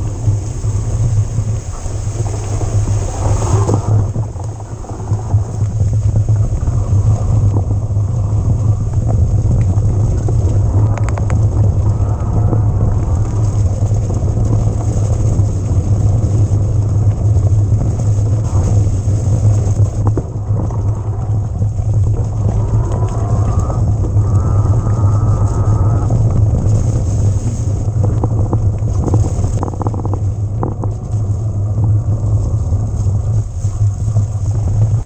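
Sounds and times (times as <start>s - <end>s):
wind and tyre rumble: 0.0s - 35.0s.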